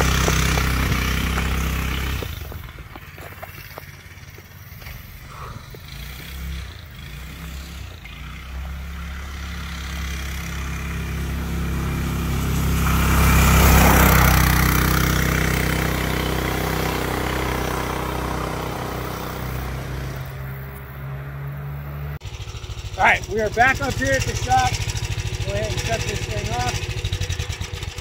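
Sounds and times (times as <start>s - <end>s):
go-kart engine passing: 0.0s - 28.0s.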